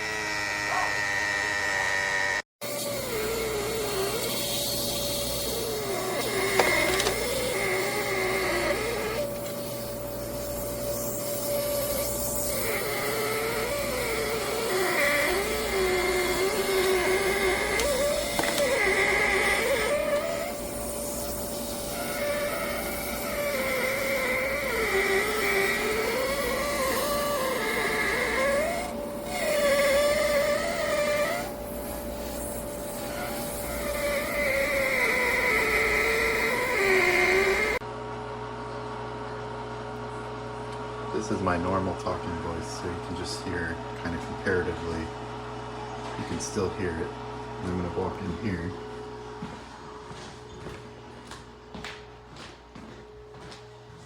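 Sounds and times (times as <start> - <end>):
ice maker humming and whining: 0.0 - 53.7.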